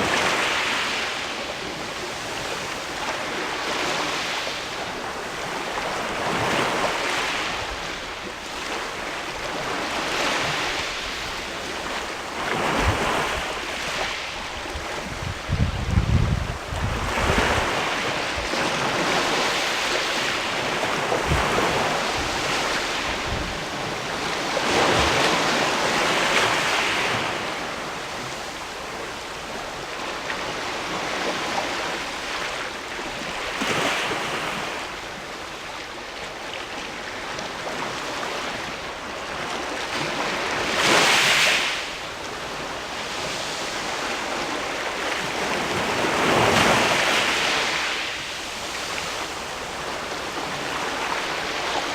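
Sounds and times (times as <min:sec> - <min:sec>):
waves washing on rocky shore: 0:00.0 - 0:34.9, 0:37.4 - 0:51.9.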